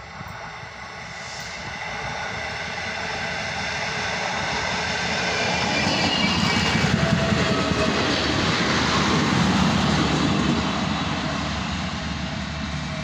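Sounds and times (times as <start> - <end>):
diesel train approaching: 0.0 - 13.0.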